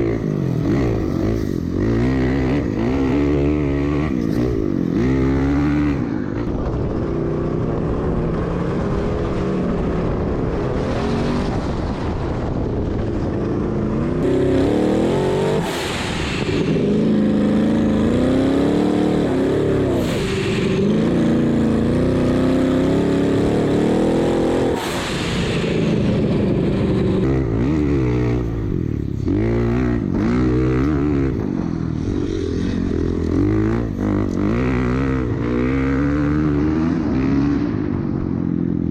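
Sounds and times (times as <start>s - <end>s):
off-road vehicle engine revving: 0.0s - 38.0s.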